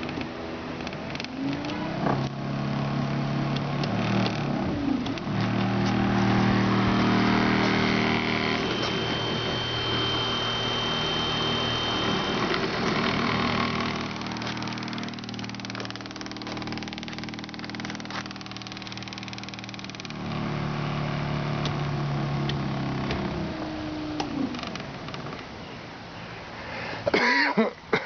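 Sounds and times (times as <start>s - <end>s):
electric motor humming: 0.0s - 25.4s.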